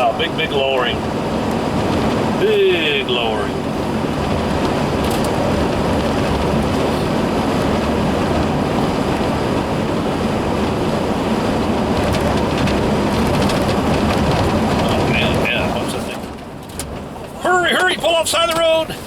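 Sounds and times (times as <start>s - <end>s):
road noise inside vehicle cabin: 0.0s - 19.0s.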